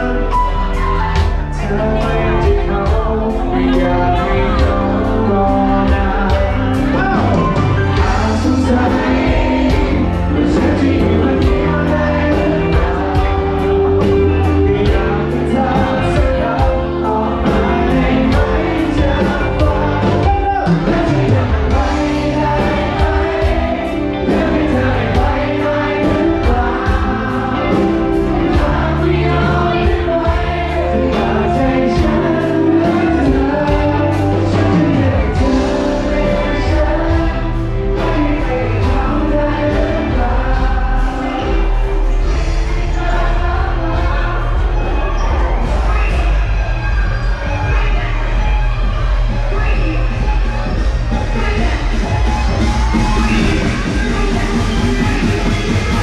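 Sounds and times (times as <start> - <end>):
loud music with singing: 0.0 - 56.0.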